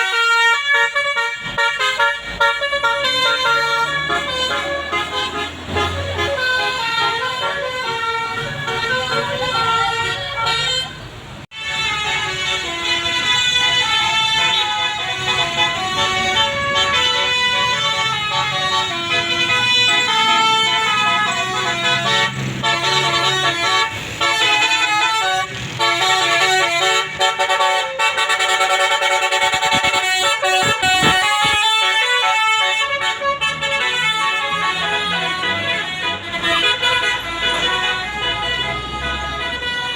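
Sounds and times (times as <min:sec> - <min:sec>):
bus engine running: 0:00.0 - 0:39.9
musical air horn melody: 0:00.0 - 0:39.9.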